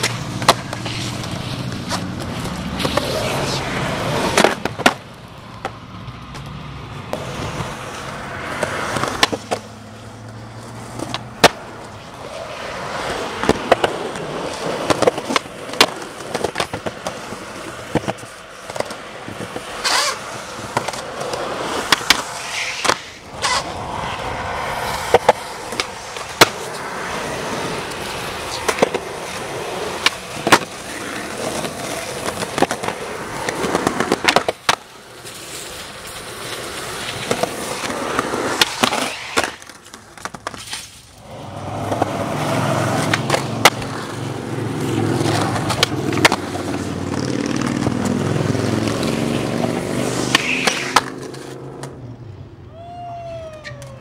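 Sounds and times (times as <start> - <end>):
skateboard clacks: 0.0 - 52.1
skateboards rolling on concrete: 0.0 - 54.0.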